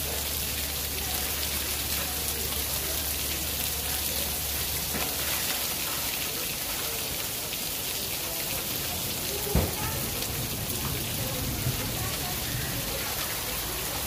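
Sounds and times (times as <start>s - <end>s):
heavy rain and hail on wood: 0.0s - 14.0s.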